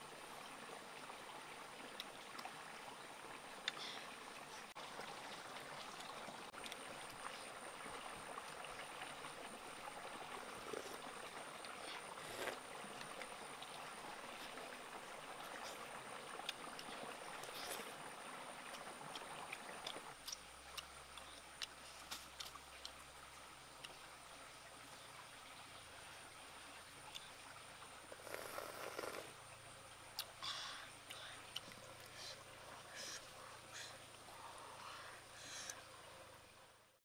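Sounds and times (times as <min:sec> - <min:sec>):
stream water rushing: 0:00.0 - 0:36.6.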